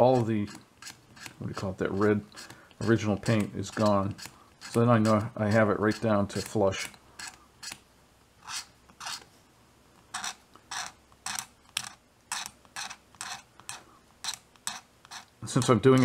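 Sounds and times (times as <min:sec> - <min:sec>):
blade scraping plastic: 0:00.0 - 0:07.8, 0:08.4 - 0:09.3, 0:10.1 - 0:16.0.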